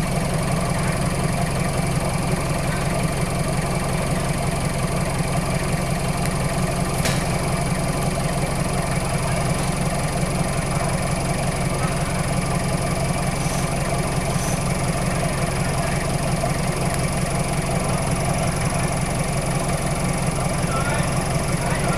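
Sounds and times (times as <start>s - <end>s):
vehicle engine idling: 0.0s - 21.9s.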